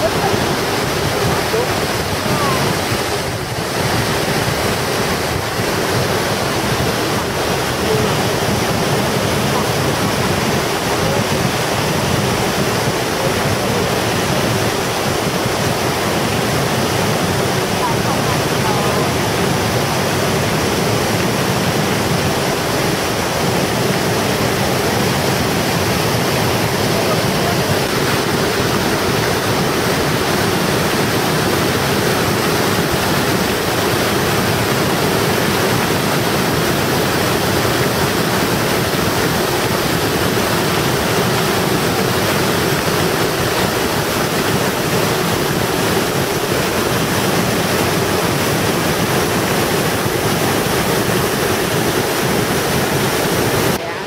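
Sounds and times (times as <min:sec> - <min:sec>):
whitewater rushing through rapids: 0:00.0 - 0:54.0.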